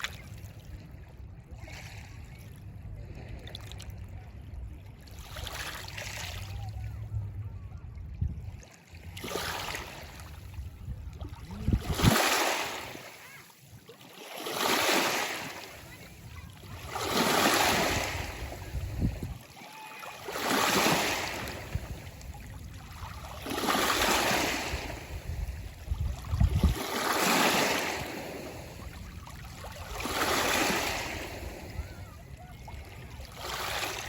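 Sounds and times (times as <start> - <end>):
waves breaking: 0.0 - 7.7, 8.5 - 34.0.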